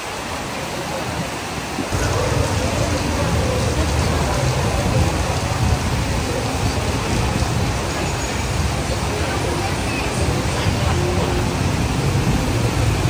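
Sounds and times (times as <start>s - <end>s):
rain hiss on wet street: 0.0s - 13.0s.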